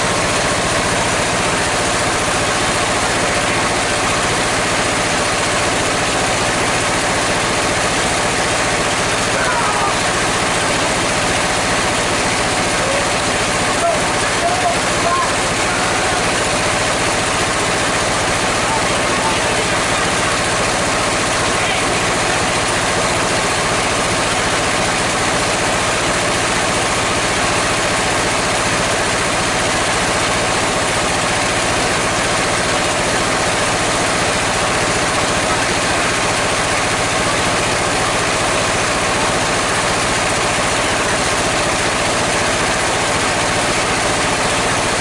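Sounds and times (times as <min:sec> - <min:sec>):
sawmill machinery drone: 0:00.0 - 0:45.0.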